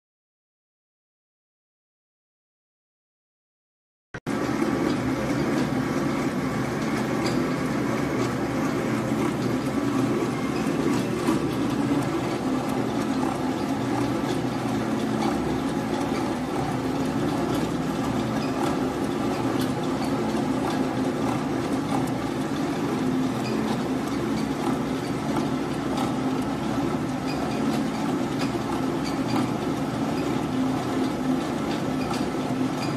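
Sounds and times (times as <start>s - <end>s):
winding machine hum: 4.3s - 32.9s.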